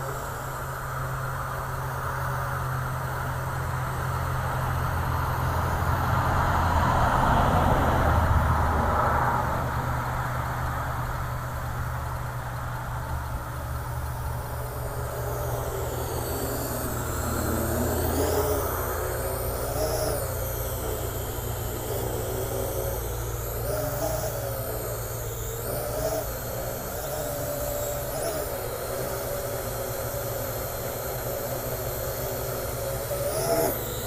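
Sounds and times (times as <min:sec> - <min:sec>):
drone rotors whirring: 0:00.0 - 0:34.0.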